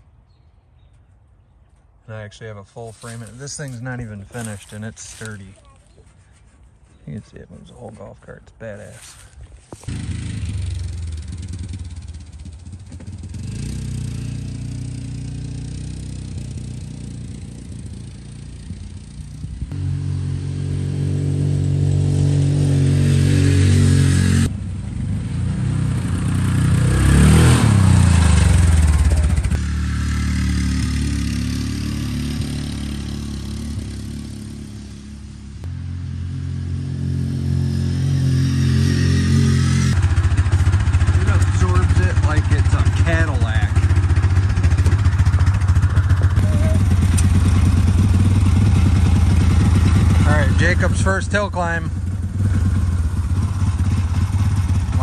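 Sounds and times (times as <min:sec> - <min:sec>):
golf cart engine passing by: 0:09.9 - 0:55.0.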